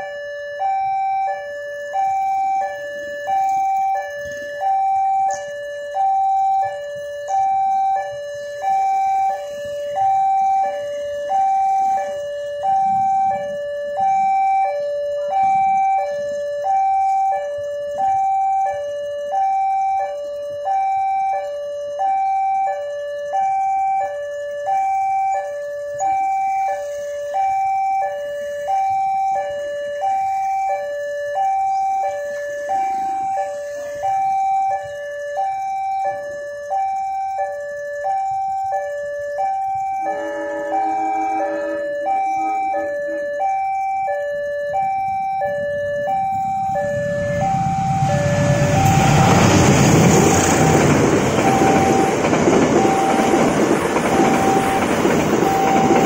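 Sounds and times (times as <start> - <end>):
level crossing two-tone alarm: 0.0 - 56.0.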